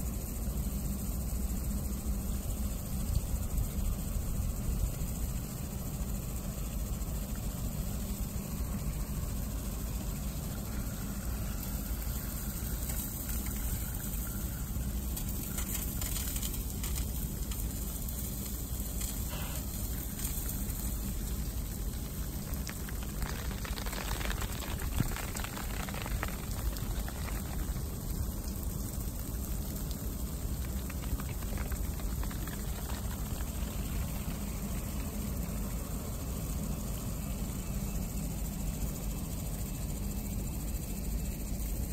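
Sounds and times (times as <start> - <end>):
constant low rumble: 0.0 - 41.9
sprinklers spraying water: 0.0 - 41.9.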